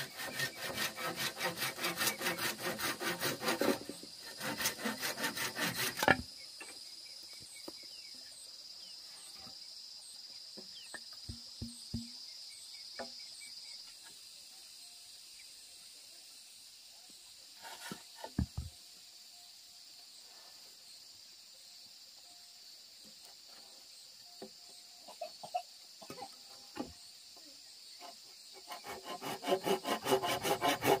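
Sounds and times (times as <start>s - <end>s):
high insect chorus: 0.0s - 31.0s.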